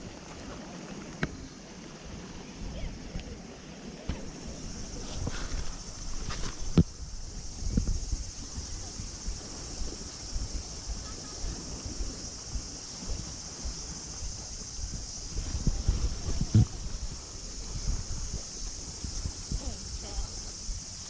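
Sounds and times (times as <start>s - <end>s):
insects chirping: 0.0s - 21.0s
wind rumble on microphone: 0.0s - 21.0s.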